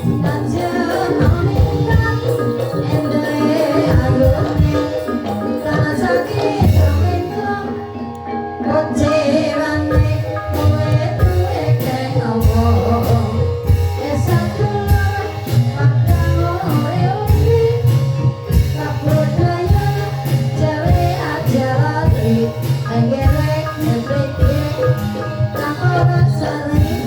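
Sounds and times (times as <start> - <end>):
drum strokes: 0.0 - 7.8, 9.6 - 27.0
ringing tuned percussion: 0.0 - 27.0
woman singing: 0.0 - 27.0.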